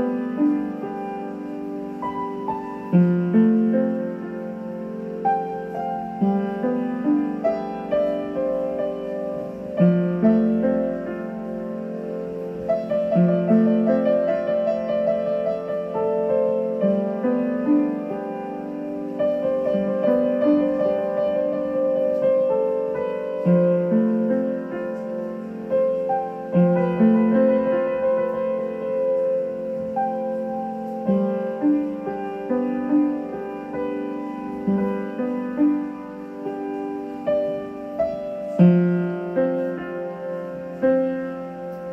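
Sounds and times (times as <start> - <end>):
slow solo piano music: 0.0 - 41.9.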